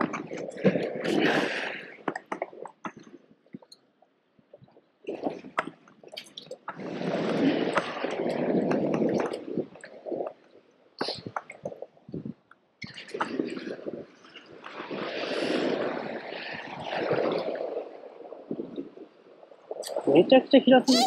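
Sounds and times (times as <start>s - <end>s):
sea water sloshing over rocks: 0.0s - 3.7s, 4.5s - 19.8s.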